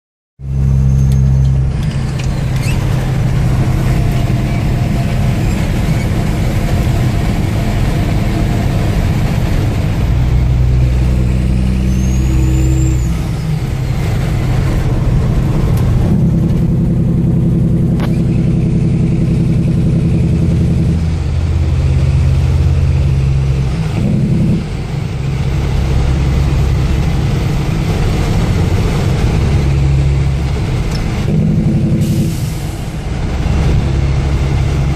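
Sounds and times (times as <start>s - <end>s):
truck diesel engine running: 0.4s - 34.9s.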